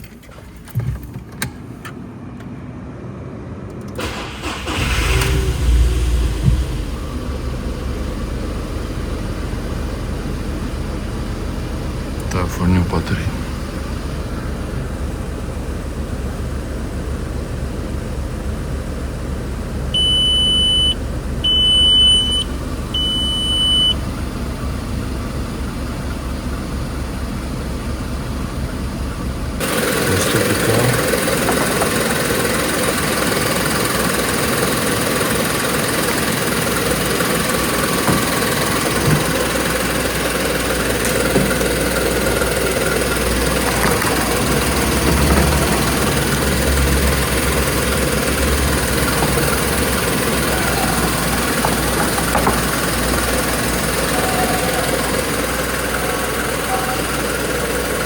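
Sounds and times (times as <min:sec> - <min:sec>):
car engine idling: 0:03.7 - 0:58.0.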